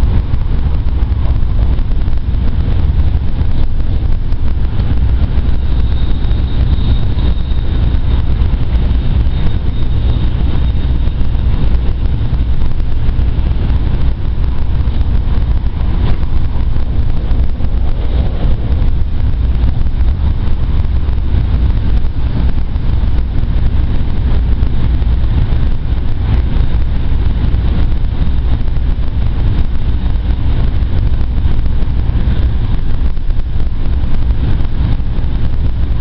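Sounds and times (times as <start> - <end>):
faint high whine: 0.0 - 36.0
train running noise rumble: 0.0 - 36.0.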